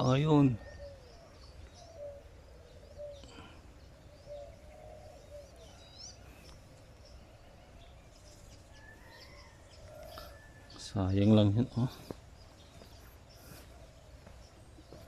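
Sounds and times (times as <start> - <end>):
faint birds calling: 0.0 - 15.0
outdoor background noise: 0.0 - 15.0.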